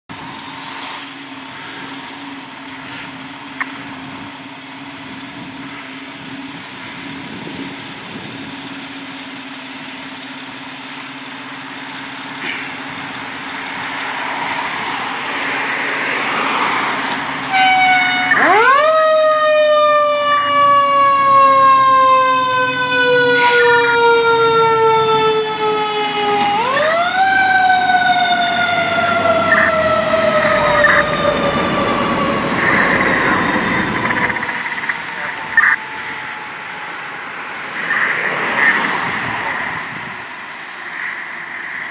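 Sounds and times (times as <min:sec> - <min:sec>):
diesel engine running: 0:00.1 - 0:19.2, 0:24.4 - 0:41.9
fire engine siren: 0:00.1 - 0:41.9.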